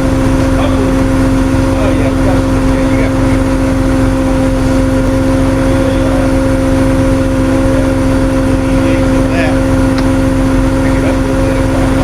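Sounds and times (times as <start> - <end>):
vehicle engine running with whine: 0.0 - 12.0.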